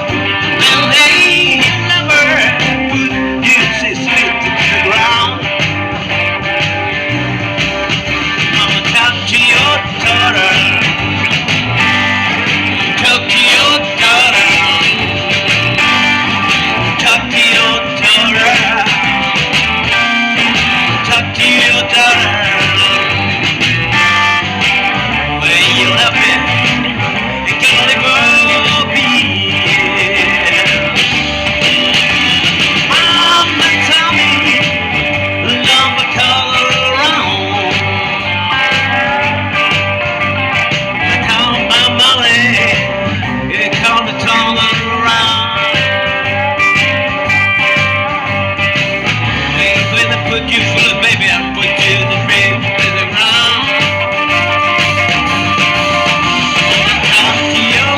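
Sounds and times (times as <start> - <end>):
blues band playing live: 0.0 - 57.9
electric guitar: 0.0 - 57.9.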